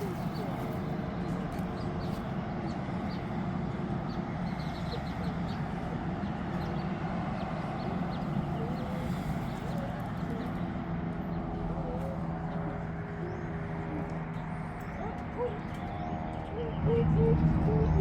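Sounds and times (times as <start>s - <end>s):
low outdoor background rumble: 0.0s - 18.0s.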